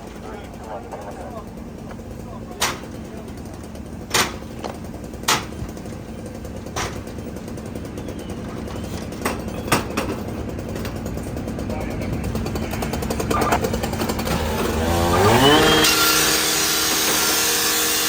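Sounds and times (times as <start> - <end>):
steady engine drone: 0.0 - 18.0.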